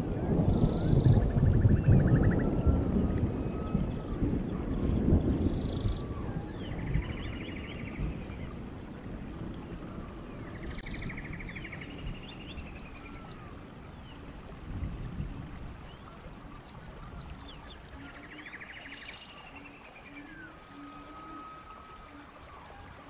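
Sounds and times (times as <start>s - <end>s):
bird song with whistles and trill: 0.5s - 9.0s, 9.9s - 14.2s, 15.9s - 23.0s.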